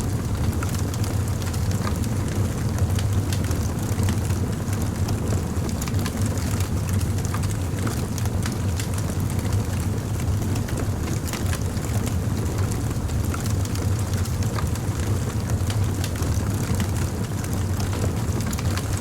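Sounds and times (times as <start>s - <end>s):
fire crackling and popping: 0.1s - 19.0s.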